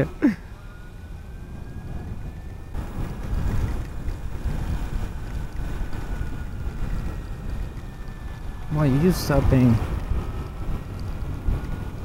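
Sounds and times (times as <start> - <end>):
rain: 0.0 - 12.0
wind buffeting the microphone: 0.0 - 12.0.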